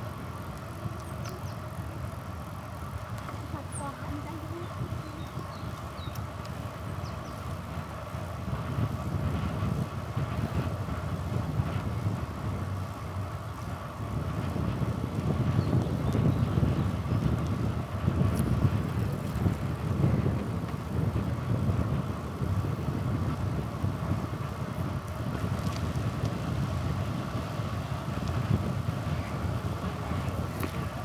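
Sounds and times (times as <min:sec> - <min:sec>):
bicycle tyre and road noise: 0:00.0 - 0:31.0
wind buffeting microphone: 0:00.0 - 0:31.0.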